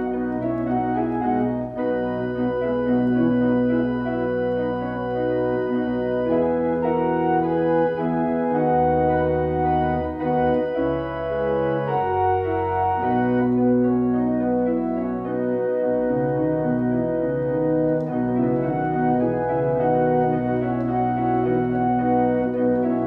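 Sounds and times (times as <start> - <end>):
electronic organ chords: 0.0 - 23.0.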